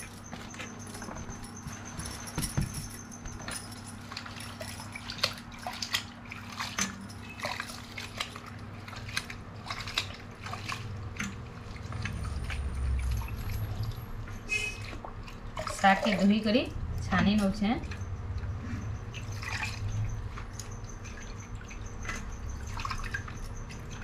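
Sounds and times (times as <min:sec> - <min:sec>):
water sloshing in pot: 0:00.0 - 0:24.0
water splashing and dripping: 0:00.0 - 0:24.0.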